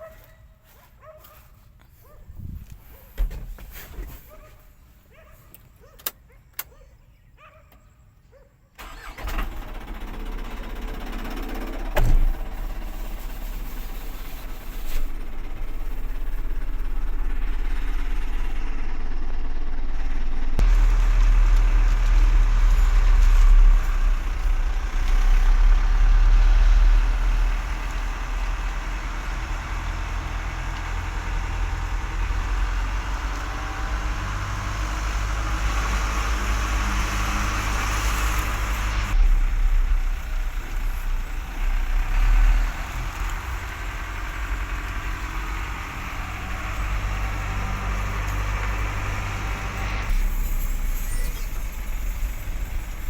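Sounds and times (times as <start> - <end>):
truck engine humming: 8.8 - 53.0.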